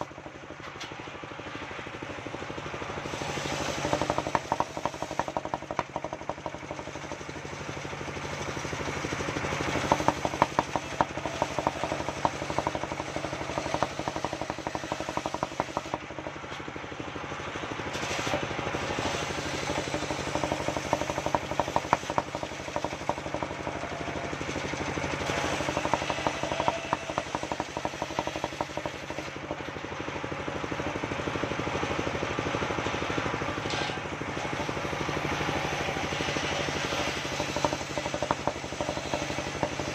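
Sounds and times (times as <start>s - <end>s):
circular sawmill cutting log: 0.0s - 39.9s
engine drone: 0.0s - 39.9s.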